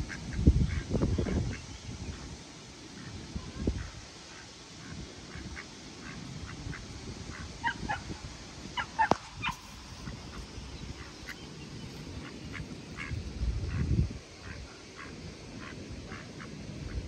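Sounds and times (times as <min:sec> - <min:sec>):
birds calling: 0:03.0 - 0:17.0.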